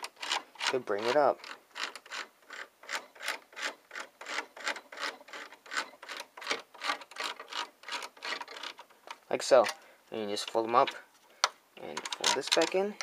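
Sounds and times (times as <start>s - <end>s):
plastic toy mechanism rasping: 0.0s - 9.8s, 10.4s - 13.0s.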